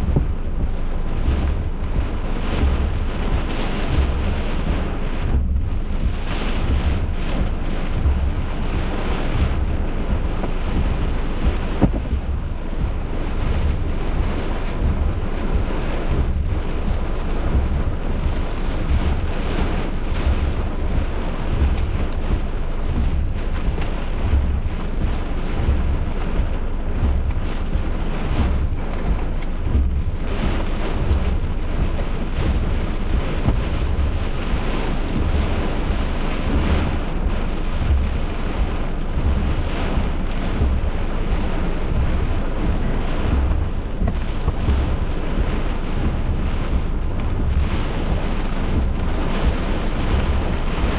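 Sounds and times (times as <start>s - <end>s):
low thunder rumble: 0.0s - 50.9s
wind and rain rushing: 0.0s - 50.9s
wind buffeting microphone: 0.0s - 50.9s.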